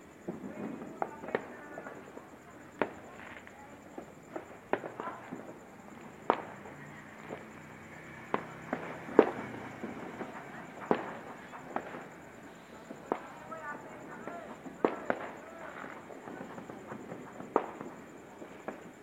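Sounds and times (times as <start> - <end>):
firecrackers and fireworks banging: 0.0 - 19.0.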